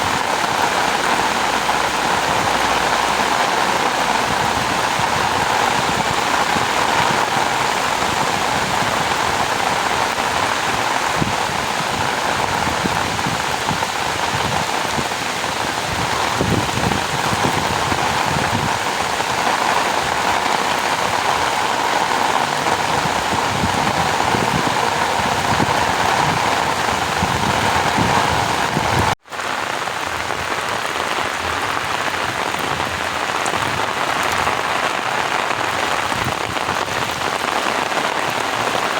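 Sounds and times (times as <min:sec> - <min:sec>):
rain falling on water: 0:00.0 - 0:38.9.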